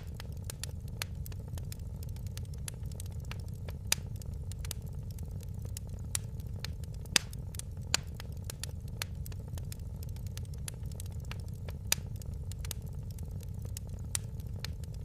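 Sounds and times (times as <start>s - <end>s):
sharp pops and snaps of wood: 0.0s - 15.0s
wood fire crackling: 0.0s - 15.0s.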